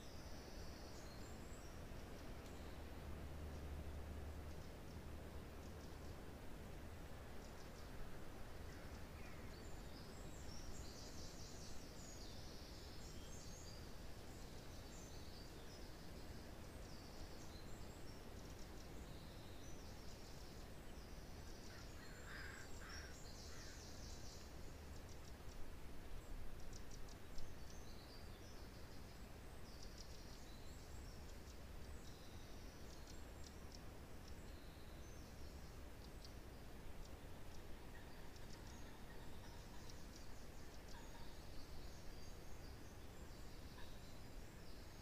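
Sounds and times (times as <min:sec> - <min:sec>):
songbirds twittering in rapid trills: 0:00.0 - 0:45.0
wind in pine trees: 0:00.0 - 0:45.0.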